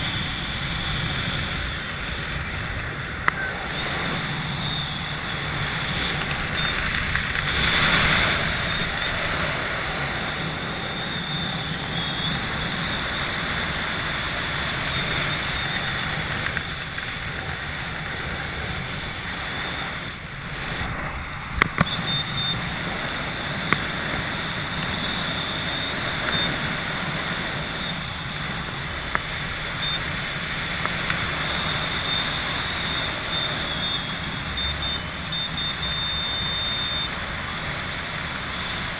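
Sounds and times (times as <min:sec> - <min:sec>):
thin high whine: 0:00.0 - 0:38.9
wind rushing over microphone: 0:00.0 - 0:38.9.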